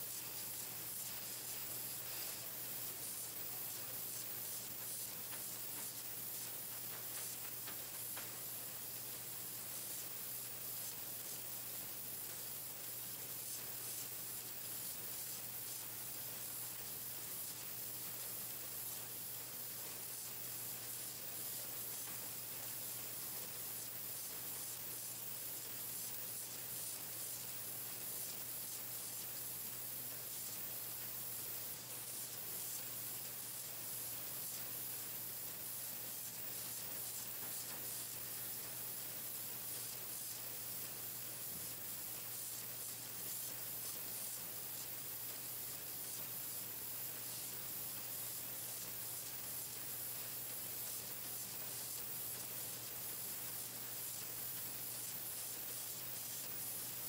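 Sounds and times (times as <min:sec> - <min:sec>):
machine hiss: 0:00.0 - 0:57.0.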